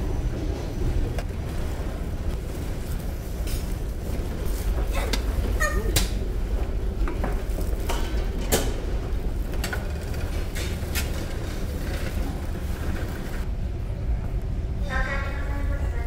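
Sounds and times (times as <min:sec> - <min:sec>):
low ship rumble: 0:00.0 - 0:16.0.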